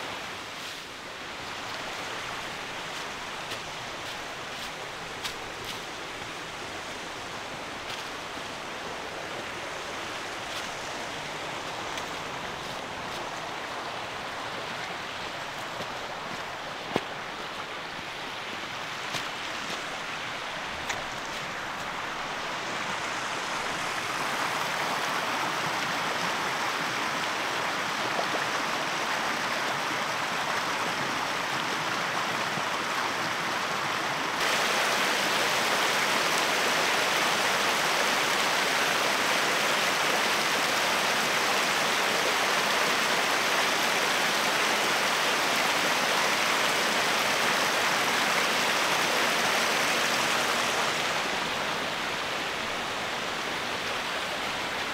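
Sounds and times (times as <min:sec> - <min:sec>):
rushing stream: 0:00.0 - 0:54.9.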